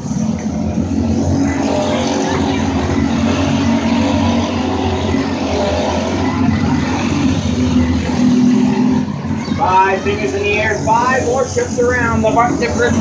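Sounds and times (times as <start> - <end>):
go-kart engines buzzing: 0.0 - 13.0.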